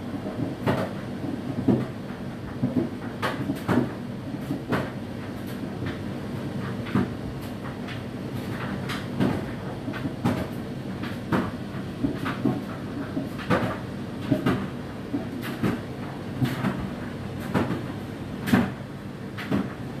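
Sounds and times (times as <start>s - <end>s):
dishwasher motor hum: 0.0s - 20.0s.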